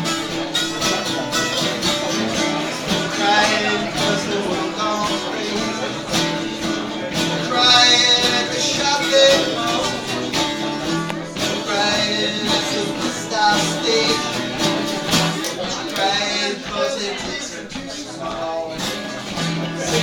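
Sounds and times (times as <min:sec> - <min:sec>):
acoustic country band: 0:00.0 - 0:20.0
guitar: 0:00.0 - 0:20.0.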